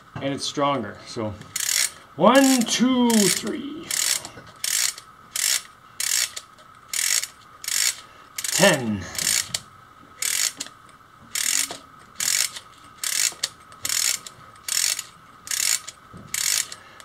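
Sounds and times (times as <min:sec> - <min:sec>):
ratchet clicking: 0:01.5 - 0:17.0.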